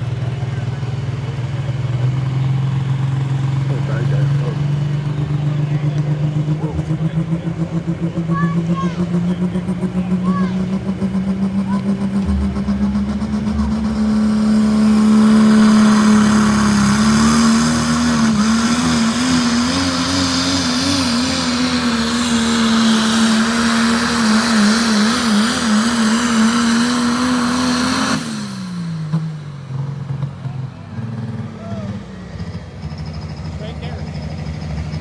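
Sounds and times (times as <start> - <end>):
diesel truck engine at full throttle: 0.0 - 35.0.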